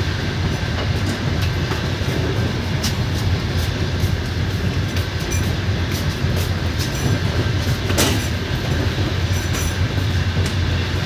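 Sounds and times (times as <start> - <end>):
train carriage rumble: 0.0 - 11.0
wheels clattering over rail joints: 0.4 - 11.0.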